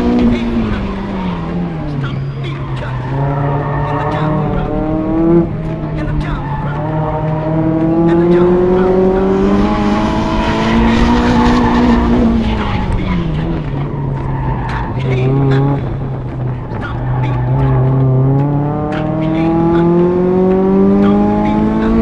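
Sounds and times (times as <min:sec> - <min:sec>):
car engine revving: 0:00.0 - 0:22.0
tires squealing: 0:00.0 - 0:22.0.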